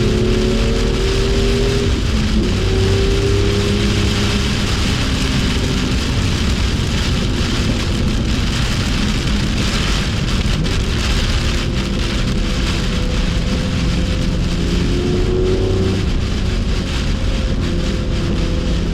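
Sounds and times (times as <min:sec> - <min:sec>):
faint car engine: 0:00.0 - 0:18.9
heavy rain and water spray: 0:00.0 - 0:18.9.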